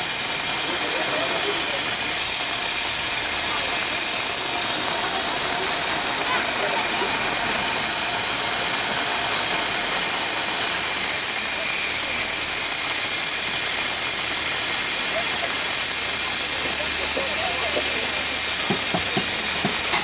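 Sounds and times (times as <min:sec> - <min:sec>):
steam hissing from locomotive: 0:00.0 - 0:20.0.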